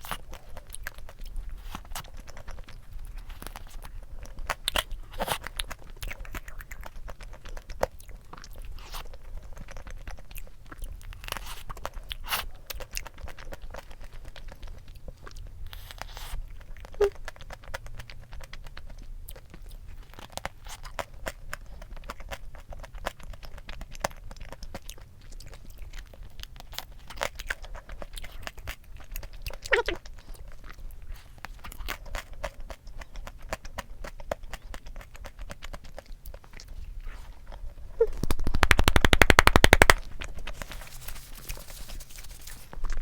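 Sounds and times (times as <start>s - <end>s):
person chewing: 0.0s - 38.2s, 39.0s - 43.0s.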